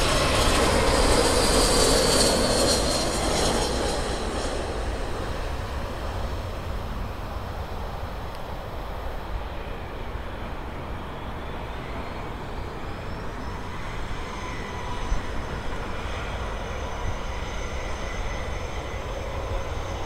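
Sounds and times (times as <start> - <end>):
jet engine noise: 0.0 - 20.0.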